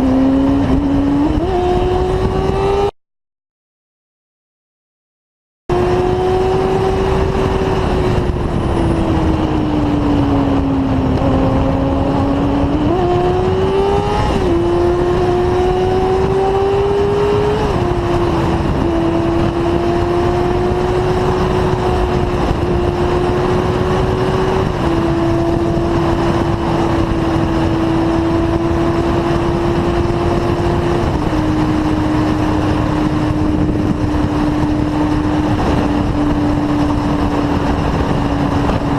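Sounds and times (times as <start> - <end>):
motorcycle engine at high speed: 0.0 - 2.9, 5.7 - 38.9
steady rushing noise: 5.7 - 38.9.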